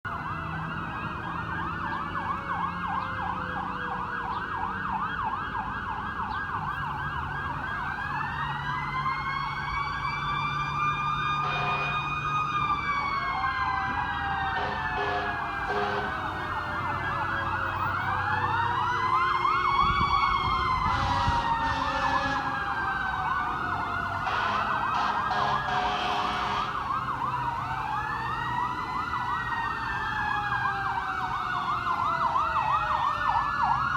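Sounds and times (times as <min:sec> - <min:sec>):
siren wailing: 0:00.1 - 0:33.9
siren yelping: 0:00.1 - 0:33.9.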